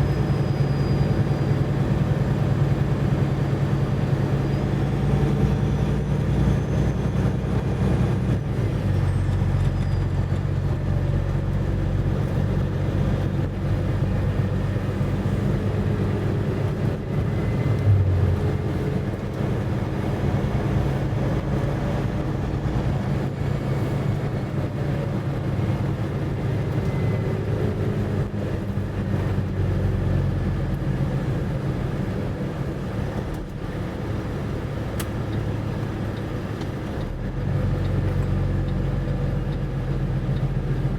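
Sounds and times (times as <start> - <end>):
road noise: 0.0 - 40.9
truck engine drone: 0.0 - 40.9.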